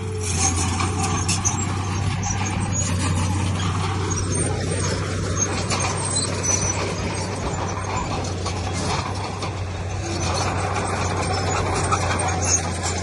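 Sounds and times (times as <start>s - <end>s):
diesel machinery engine hum: 0.0s - 13.0s
machinery clatter and grinding: 0.0s - 13.0s.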